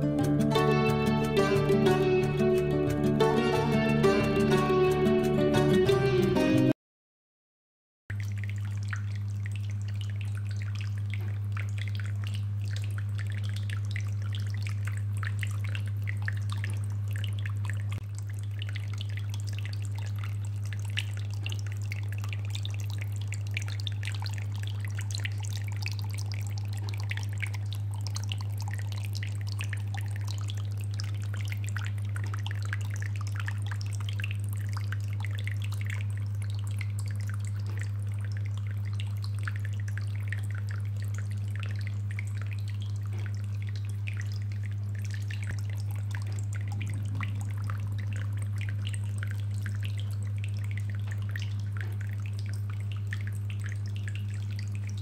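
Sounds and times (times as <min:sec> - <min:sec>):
water trickling and dripping: 0:00.0 - 0:05.4, 0:08.1 - 0:55.0
low pump hum: 0:00.0 - 0:06.2, 0:08.1 - 0:55.0.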